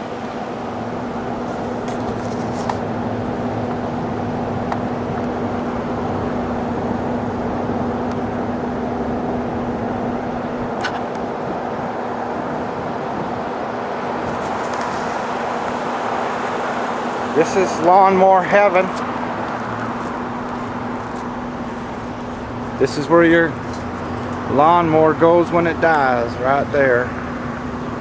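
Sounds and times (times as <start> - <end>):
low hum: 0.0 - 28.0
vehicle engine running: 0.0 - 28.0.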